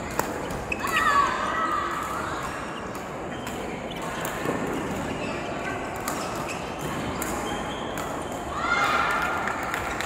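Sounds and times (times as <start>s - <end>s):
racket hitting shuttlecock: 0.0s - 1.1s, 1.8s - 9.0s.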